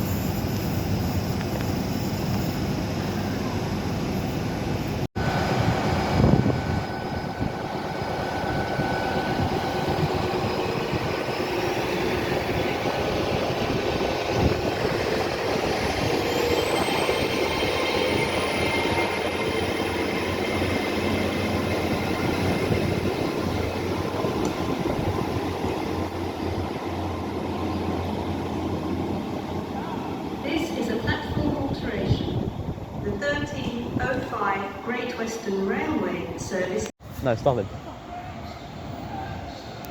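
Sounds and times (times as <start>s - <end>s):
high whine climbing in pitch: 0.0s - 33.5s
train running: 0.0s - 36.9s.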